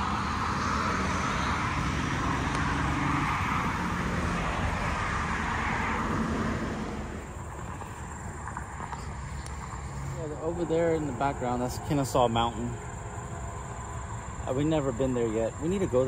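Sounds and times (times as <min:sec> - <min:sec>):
cars passing on road: 0:00.0 - 0:16.0.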